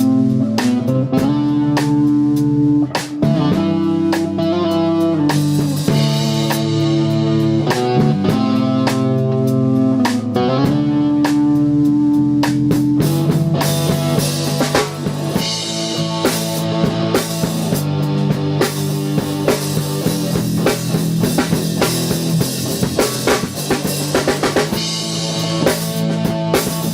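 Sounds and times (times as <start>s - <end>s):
bass guitar: 0.0s - 26.9s
drum kit playing: 0.0s - 26.9s
electric guitar: 0.0s - 26.9s.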